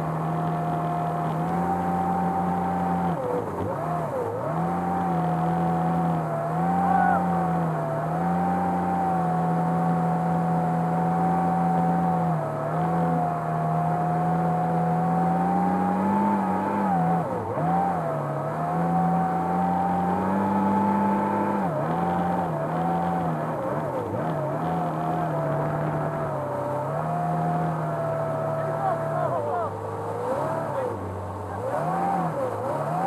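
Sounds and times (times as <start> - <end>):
motorboat engine running: 0.0 - 33.0
rush of boat wake: 0.0 - 33.0.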